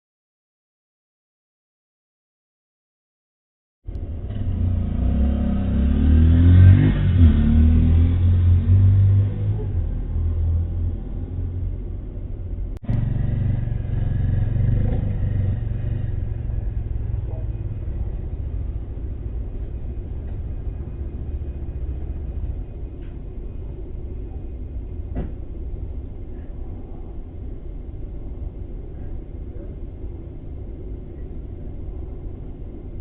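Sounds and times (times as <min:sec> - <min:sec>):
low steady rumble: 0:03.9 - 0:33.0.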